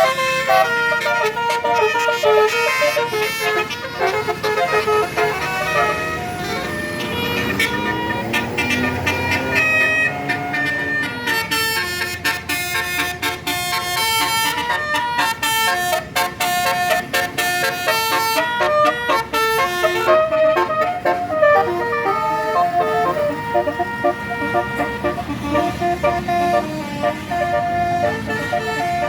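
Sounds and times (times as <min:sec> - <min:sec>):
multi-tone bus horn tune: 0:00.0 - 0:29.0.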